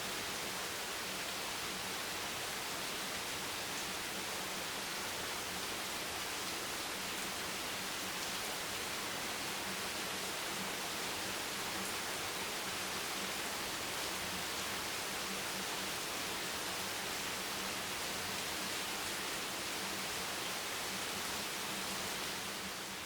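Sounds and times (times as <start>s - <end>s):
heavy rain on a bench: 0.0s - 23.0s.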